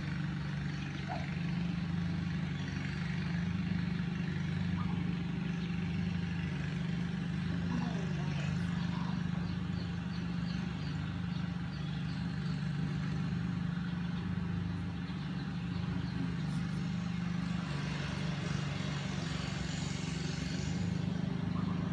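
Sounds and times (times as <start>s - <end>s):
low mechanical drone: 0.0s - 21.9s
ducklings peeping: 0.1s - 19.2s, 21.0s - 21.9s.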